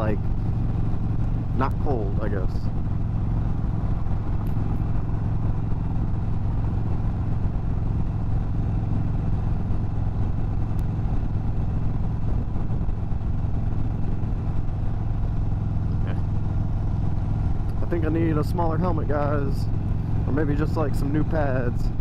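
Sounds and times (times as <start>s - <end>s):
motorcycle engine cruising: 0.0s - 22.0s
wind and road noise: 0.0s - 22.0s.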